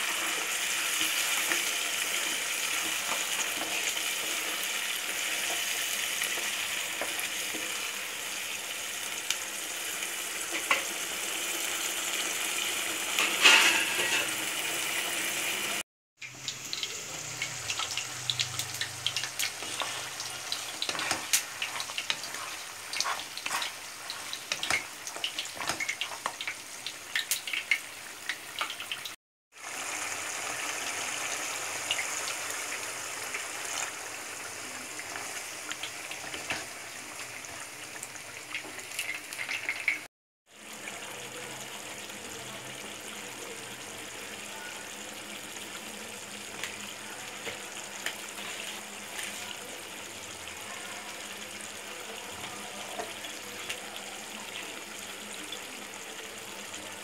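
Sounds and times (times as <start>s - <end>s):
curry bubbling and sizzling: 0.0s - 57.0s.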